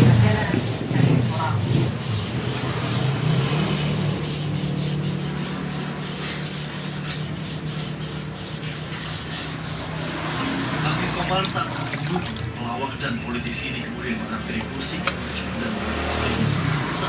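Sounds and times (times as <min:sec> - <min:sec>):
sandpaper rubbing back and forth: 0:00.0 - 0:12.5, 0:15.2 - 0:17.0.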